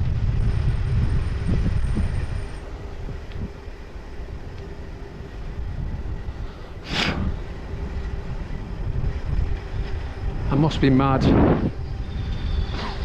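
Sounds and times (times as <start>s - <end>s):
bike tyre rumble: 0.0s - 13.0s
faint steady hum: 0.0s - 13.0s
wind: 0.0s - 13.0s.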